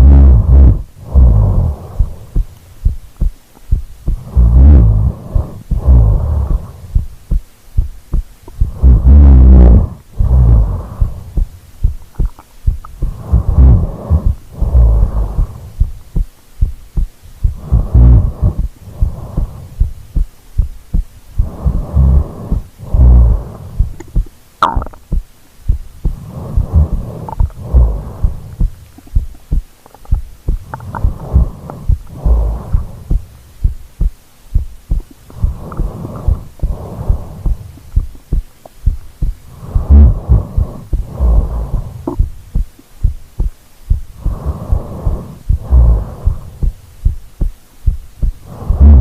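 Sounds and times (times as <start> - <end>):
deep sleeping breaths: 0.0 - 24.3, 25.7 - 49.0
heartbeat thumps: 0.0 - 49.0.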